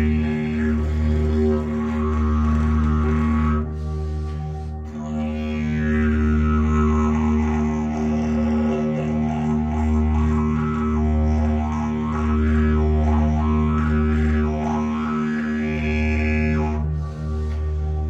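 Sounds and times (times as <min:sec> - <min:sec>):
didgeridoo drone: 0:00.0 - 0:18.0.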